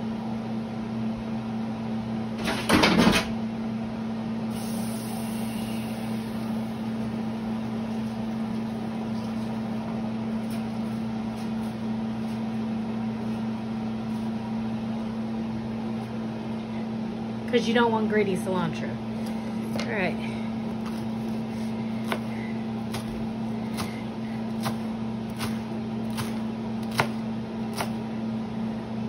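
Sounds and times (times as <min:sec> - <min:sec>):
kitchen appliance humming: 0:00.0 - 0:29.0.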